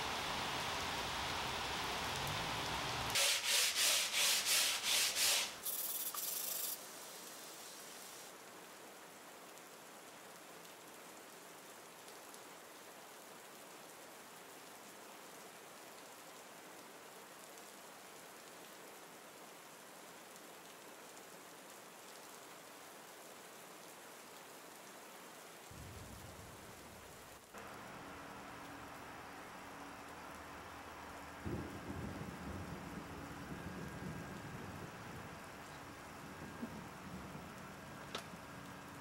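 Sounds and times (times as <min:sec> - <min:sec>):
faint steady hiss: 0:00.0 - 0:39.0.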